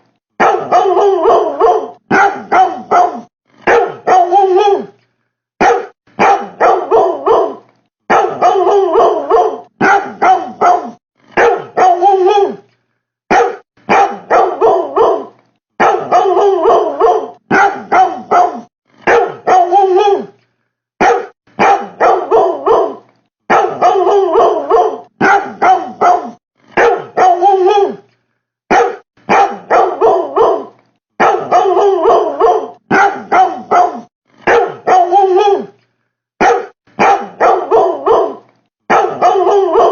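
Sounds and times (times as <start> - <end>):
dog barking: 0.4 - 4.9, 5.6 - 12.6, 13.3 - 20.3, 21.0 - 28.0, 28.7 - 35.7, 36.4 - 39.9.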